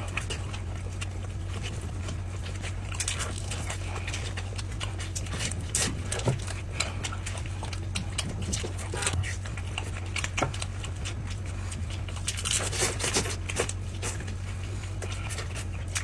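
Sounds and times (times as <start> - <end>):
eating crunches and clicks: 0.0 - 16.0.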